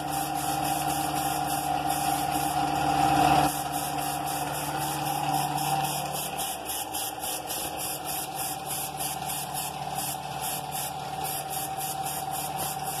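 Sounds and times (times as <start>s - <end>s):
air compressor whining: 0.0s - 13.0s
paint spray gun hissing: 0.0s - 13.0s.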